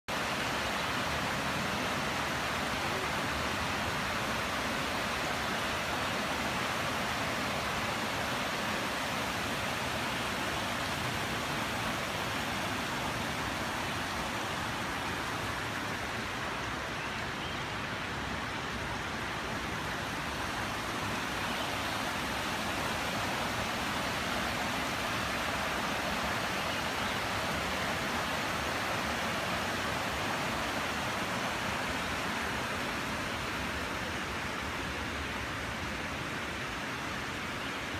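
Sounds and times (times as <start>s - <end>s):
creek rushing over rocks: 0.1s - 37.9s.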